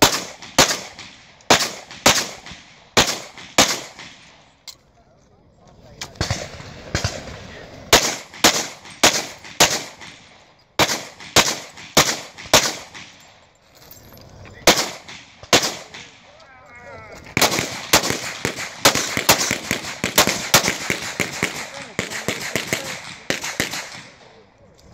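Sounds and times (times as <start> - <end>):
pistol shots: 0.0 - 4.4, 6.1 - 13.4, 14.6 - 16.3, 17.3 - 24.4.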